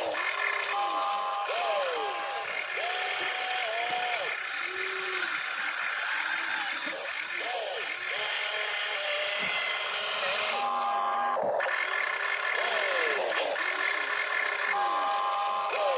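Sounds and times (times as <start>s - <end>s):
small electric motors whining: 0.0s - 15.9s.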